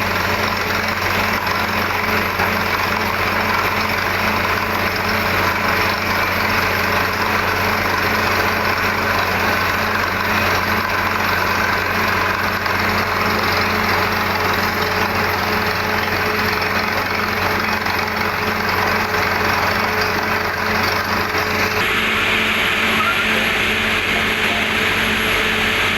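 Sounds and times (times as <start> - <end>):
drilling machinery rumble and hiss: 0.0 - 25.9
drilling rig engine running: 0.0 - 25.9.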